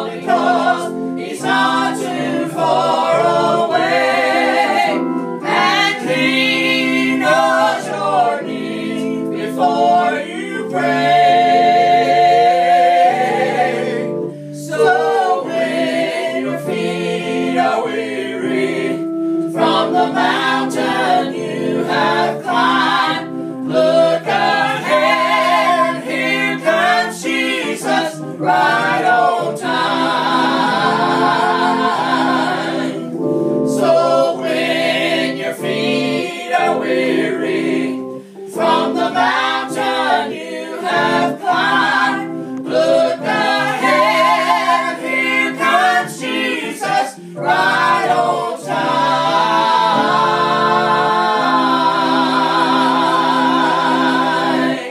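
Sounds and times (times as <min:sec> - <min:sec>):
electronic keyboard chords: 0:00.0 - 0:54.9
people singing in harmony: 0:00.0 - 0:54.9.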